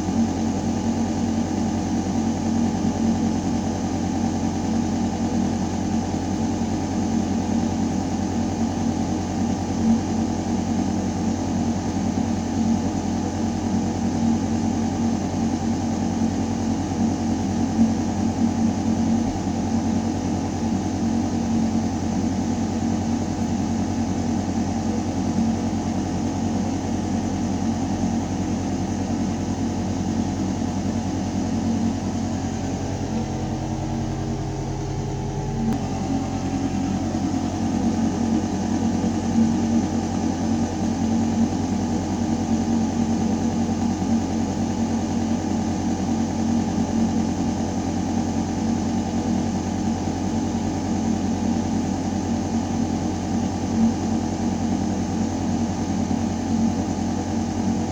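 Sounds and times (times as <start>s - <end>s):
ventilation low hum: 0.0s - 57.9s.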